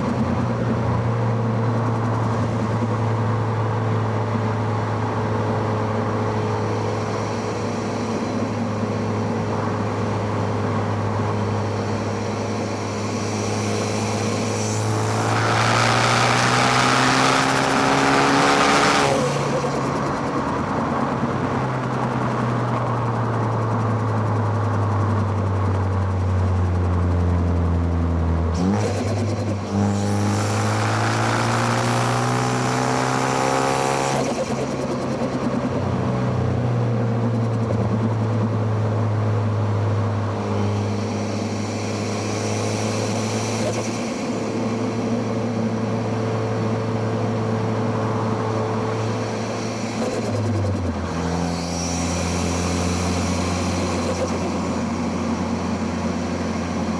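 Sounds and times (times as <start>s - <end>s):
car engine revving: 0.0s - 24.8s, 28.5s - 38.6s, 39.8s - 56.9s.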